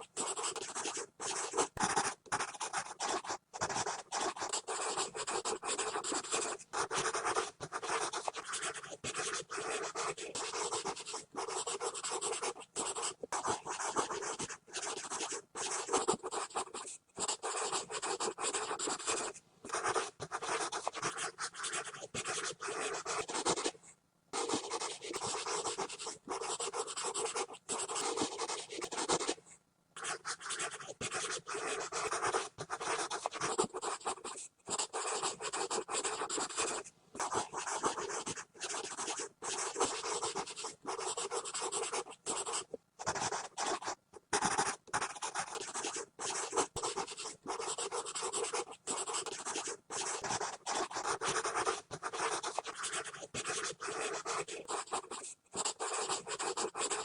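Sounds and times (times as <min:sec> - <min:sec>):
pencil scribbling on paper: 0:00.0 - 0:23.8, 0:24.4 - 0:29.4, 0:30.0 - 0:57.0.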